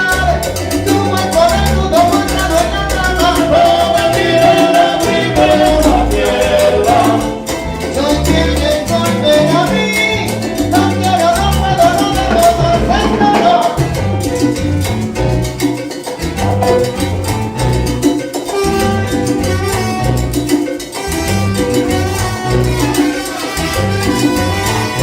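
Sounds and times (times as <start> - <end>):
pulsing bass line: 0.0 - 23.0, 23.6 - 25.0
latin percussion: 0.0 - 25.0
salsa band playing: 0.0 - 25.0.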